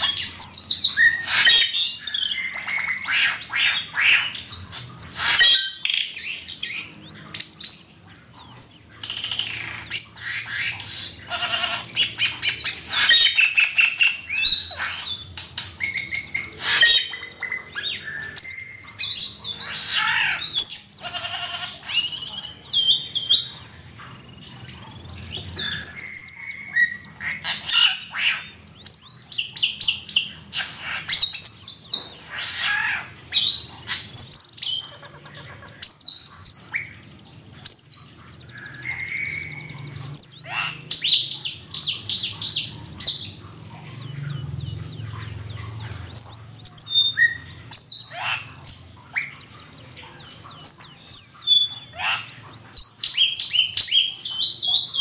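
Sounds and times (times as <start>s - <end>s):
bird chirping and whistling: 0.0s - 49.5s, 50.2s - 55.0s.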